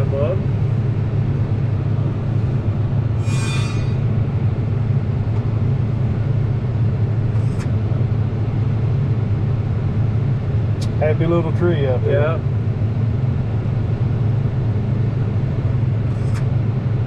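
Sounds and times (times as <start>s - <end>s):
farm machine engine droning: 0.0s - 17.0s.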